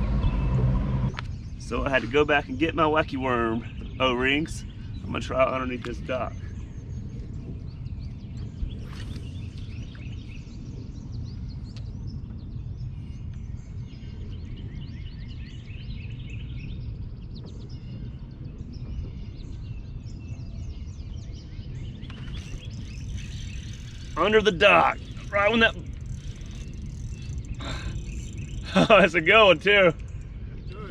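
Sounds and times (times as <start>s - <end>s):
low outdoor rumble: 0.0s - 30.9s
small birds chirping: 0.0s - 30.9s.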